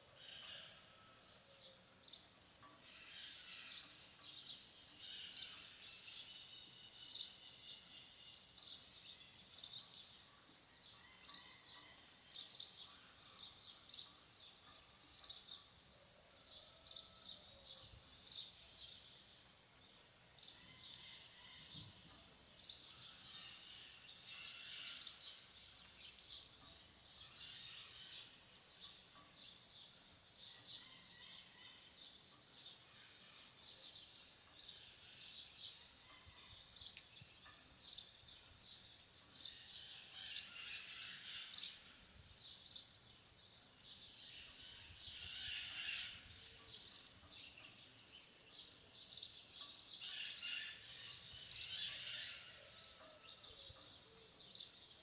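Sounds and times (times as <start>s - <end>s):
soft steady hiss: 0.0s - 55.0s.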